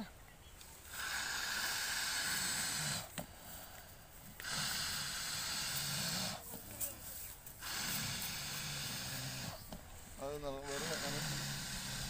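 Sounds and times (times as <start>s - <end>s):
water buffalo breathing hard: 0.8s - 12.0s.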